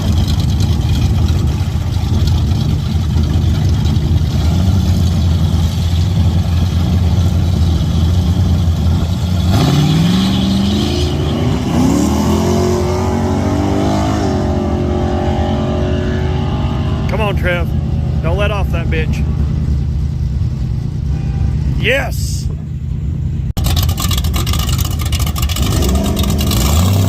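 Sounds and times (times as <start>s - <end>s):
drag car engine rumbling and accelerating: 0.0s - 27.0s.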